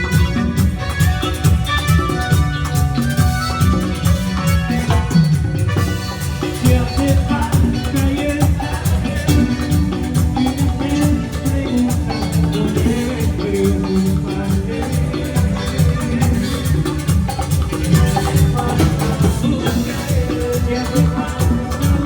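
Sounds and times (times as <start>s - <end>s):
band playing latin dance music: 0.0s - 22.0s
shaken percussion: 0.0s - 22.0s.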